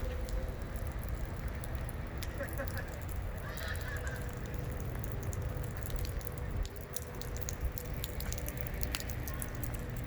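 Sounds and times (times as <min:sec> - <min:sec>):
raindrops ticking: 0:00.0 - 0:10.0.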